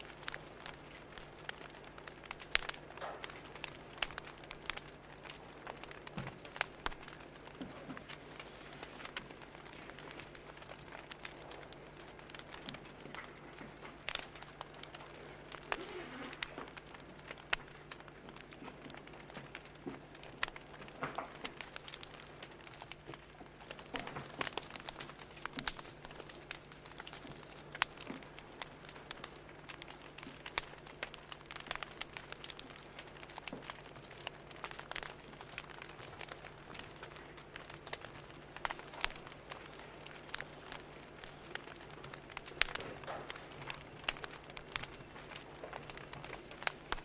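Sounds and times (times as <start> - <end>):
faint steady hum: 0.0 - 47.0
fire crackling: 0.0 - 47.0.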